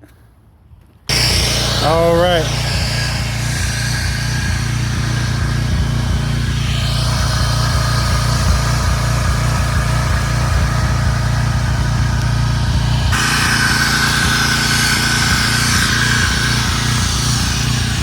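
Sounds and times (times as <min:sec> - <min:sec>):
high whistling hiss: 0:01.1 - 0:18.0
small petrol engine running: 0:01.1 - 0:18.0.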